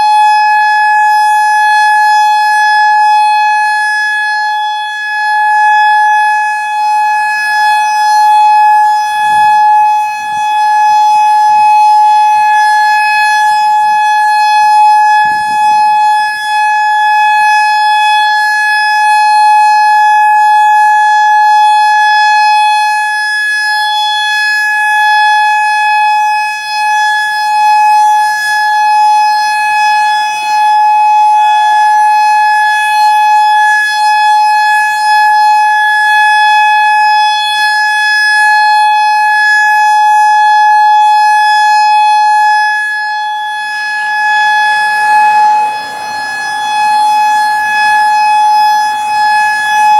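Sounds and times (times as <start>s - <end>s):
outdoor warning siren steady tone: 0.0s - 49.9s.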